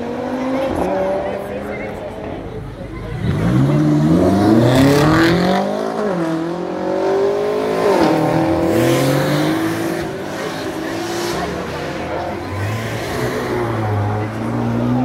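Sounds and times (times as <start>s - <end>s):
sports car accelerating: 0.0s - 15.0s.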